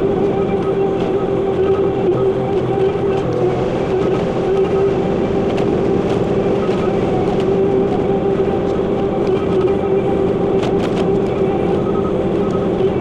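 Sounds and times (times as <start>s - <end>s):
constant high hum: 0.0s - 13.0s
diesel engine drone: 0.0s - 13.0s.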